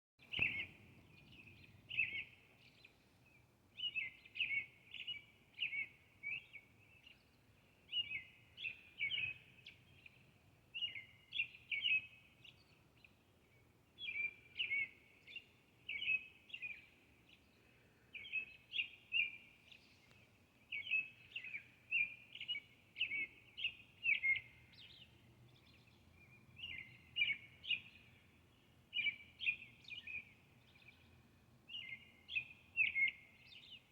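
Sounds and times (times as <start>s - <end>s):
songbird singing: 0.2s - 33.9s.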